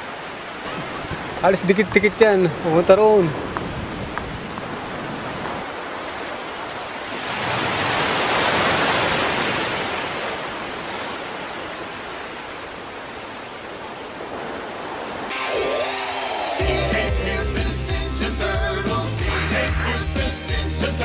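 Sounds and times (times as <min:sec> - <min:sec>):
ocean surf washing: 0:00.0 - 0:20.6.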